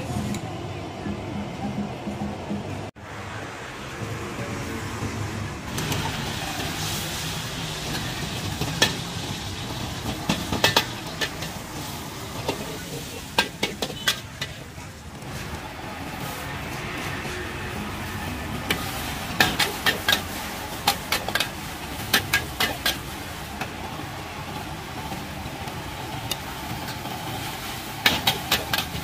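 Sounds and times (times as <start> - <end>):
oil sizzling in a wok: 5.7 - 29.0.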